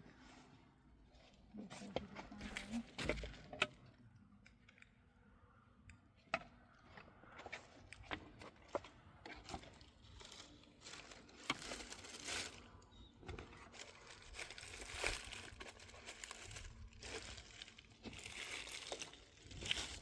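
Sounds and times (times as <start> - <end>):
rustling and crinkling: 0.1 - 4.9, 6.8 - 20.0.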